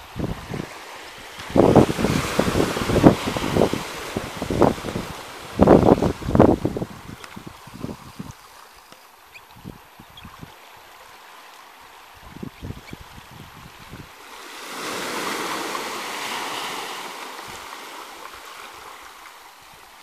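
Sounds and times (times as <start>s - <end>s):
wind gusts on microphone: 0.0s - 8.7s, 9.3s - 11.2s, 12.0s - 20.0s
small waves on sandy beach: 0.0s - 20.0s.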